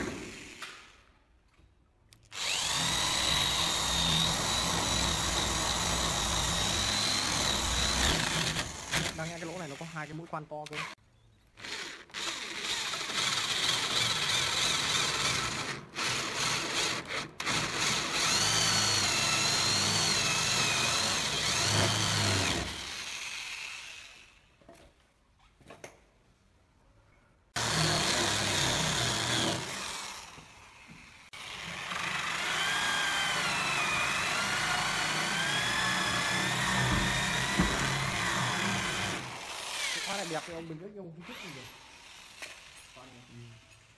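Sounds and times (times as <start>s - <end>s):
electric drill boring into wood: 2.3s - 10.9s, 11.6s - 24.4s, 27.6s - 43.3s.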